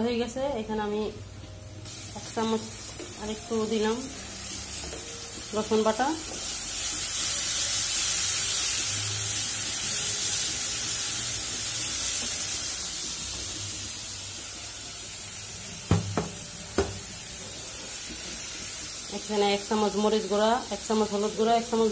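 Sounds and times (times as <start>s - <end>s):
onions sizzling in oil: 0.0s - 21.9s.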